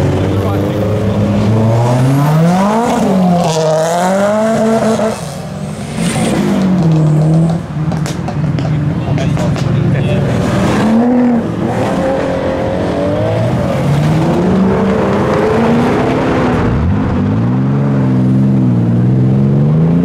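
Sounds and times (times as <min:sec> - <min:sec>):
deep engine held at high revs: 0:00.0 - 0:07.6, 0:10.0 - 0:20.0
car engines revving: 0:00.0 - 0:20.0.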